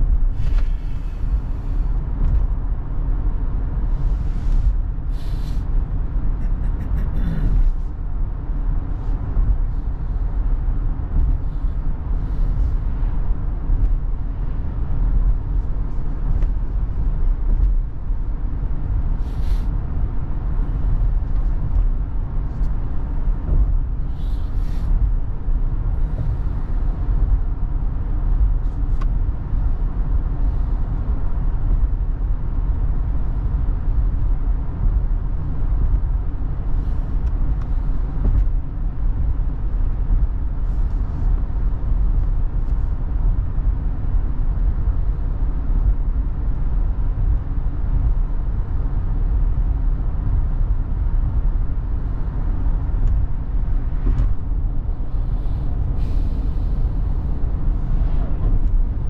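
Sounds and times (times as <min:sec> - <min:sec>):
road and tyre rumble in car: 0:00.0 - 0:59.0.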